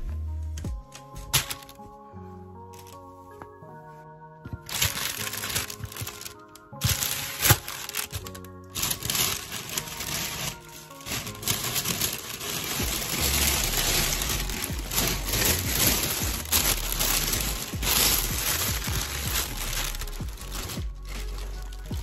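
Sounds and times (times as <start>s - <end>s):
plastic bag rustling: 0.9s - 2.0s, 2.7s - 3.1s, 4.6s - 22.0s.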